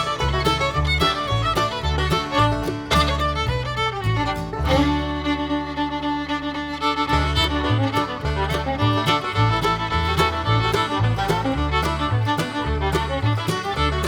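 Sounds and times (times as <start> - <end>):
bass line: 0.0 - 14.0
bluegrass fiddle music: 0.0 - 14.0.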